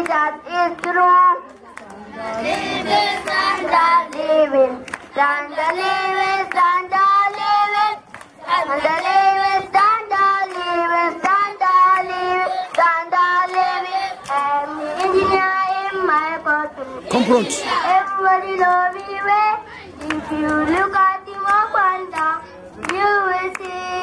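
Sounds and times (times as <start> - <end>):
child singing into a microphone: 0.0 - 1.6, 2.2 - 16.9, 17.6 - 24.0.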